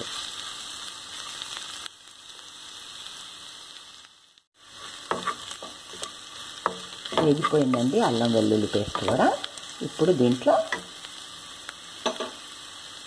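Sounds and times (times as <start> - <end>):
paste frying in hot oil: 0.0 - 13.0.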